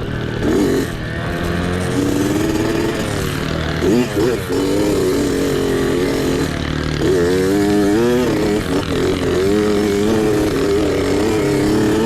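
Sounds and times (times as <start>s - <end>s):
mini bike engine revving: 0.0s - 12.0s.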